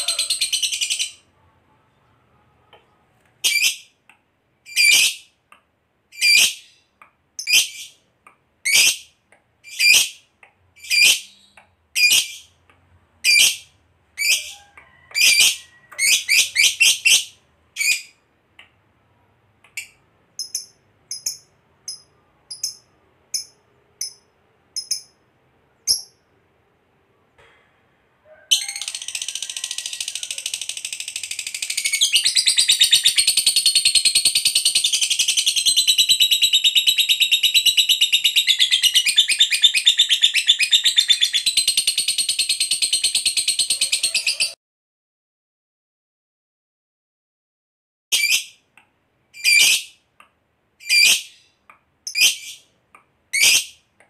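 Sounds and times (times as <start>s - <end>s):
bird chirping: 0.0s - 4.0s, 4.7s - 5.3s, 6.1s - 12.6s, 13.2s - 26.4s, 28.3s - 44.6s, 49.4s - 50.0s, 50.8s - 53.8s.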